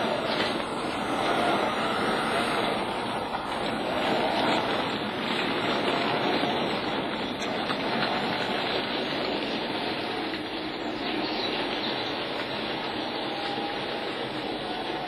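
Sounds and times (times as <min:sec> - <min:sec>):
model train whirring and rolling: 0:00.0 - 0:15.0.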